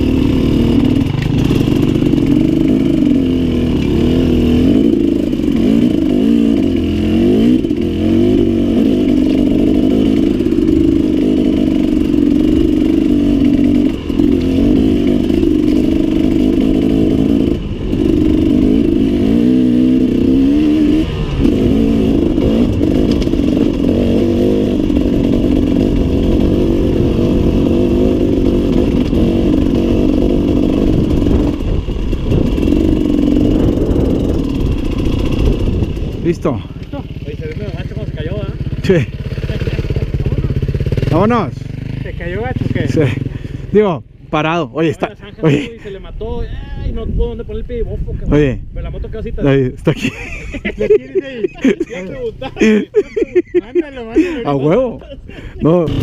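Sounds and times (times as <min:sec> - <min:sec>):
motorcycle engine revving: 0:00.0 - 0:47.7, 0:49.3 - 0:56.0.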